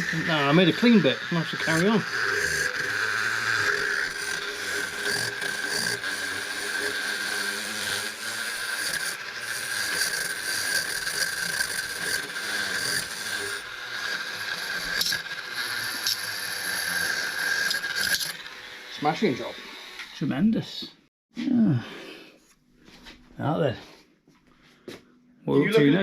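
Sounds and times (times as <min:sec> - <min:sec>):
small power tool rasping: 0:00.0 - 0:21.0.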